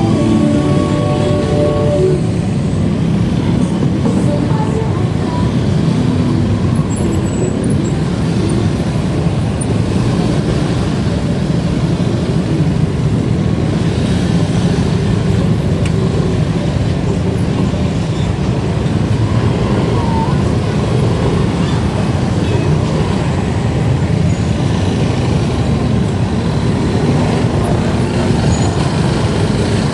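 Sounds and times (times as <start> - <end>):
road noise rumble: 0.0 - 29.9
traffic: 0.0 - 29.9.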